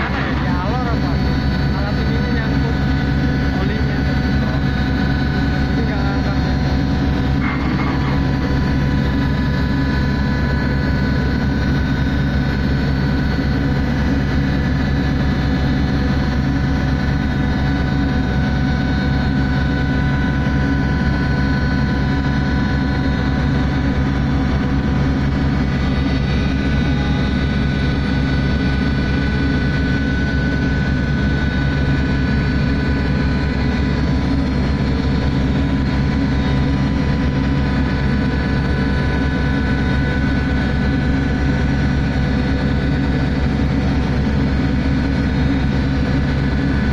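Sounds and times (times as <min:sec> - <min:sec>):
ship engines low drone: 0:00.0 - 0:46.9.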